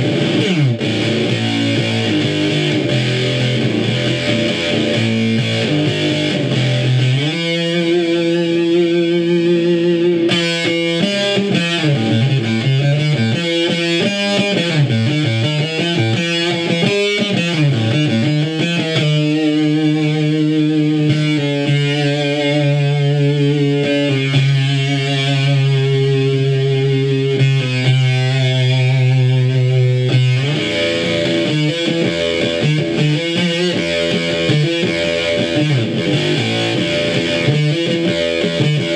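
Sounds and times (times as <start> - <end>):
fuzz electric guitar: 0.0 - 38.9.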